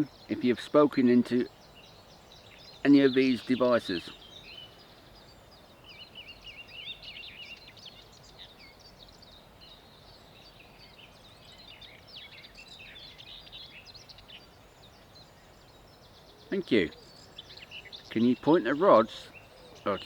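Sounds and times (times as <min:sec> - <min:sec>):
birds chirping and warbling: 0:00.0 - 0:20.0
steady low hiss: 0:00.0 - 0:20.0.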